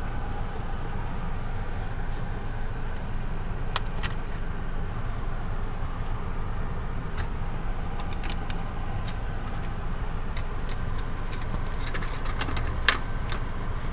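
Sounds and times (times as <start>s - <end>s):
low rumble inside car cabin: 0.0s - 13.9s.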